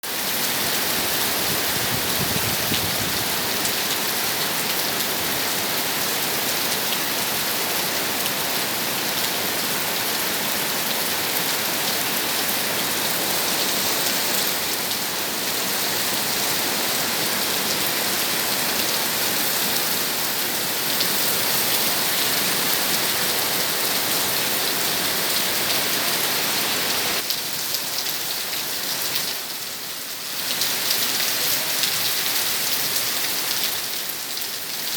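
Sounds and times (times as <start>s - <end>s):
heavy rain pattering: 0.1s - 29.5s.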